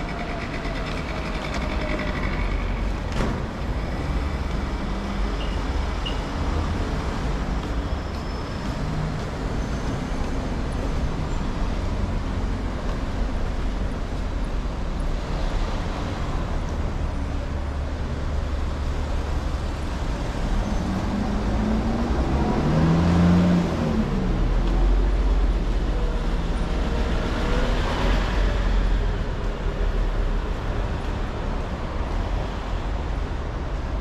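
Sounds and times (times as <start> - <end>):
low rumble of traffic: 0.0 - 34.0.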